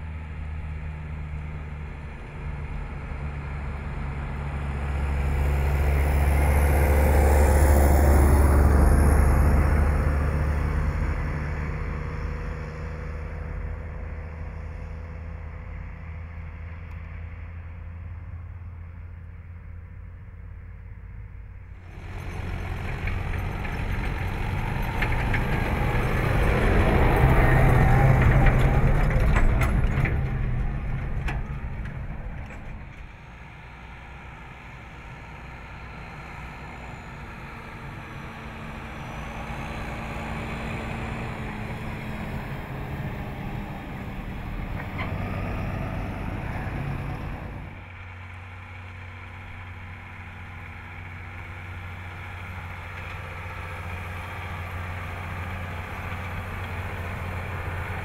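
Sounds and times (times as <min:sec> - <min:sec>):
tractors driving past: 0:00.0 - 0:58.0.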